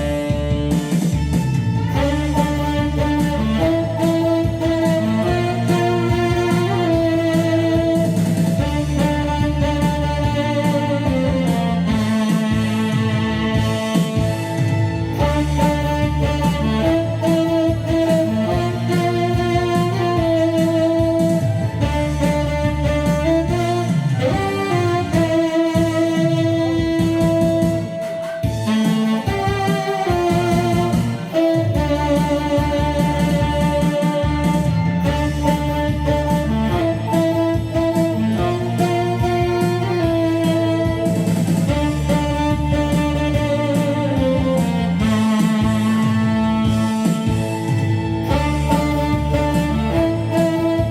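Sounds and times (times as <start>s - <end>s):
backing track with guitar: 0.0s - 50.9s
instrumental accompaniment: 0.0s - 50.9s
saxophone melody: 0.0s - 50.9s.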